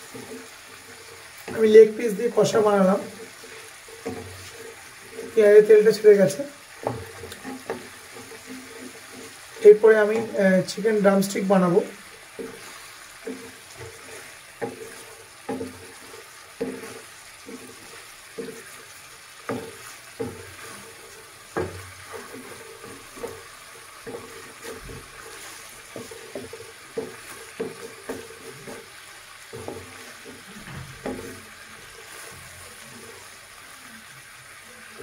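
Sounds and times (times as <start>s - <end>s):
spatula scraping and knocking pan: 0.0s - 33.7s
low sizzle: 0.0s - 35.0s.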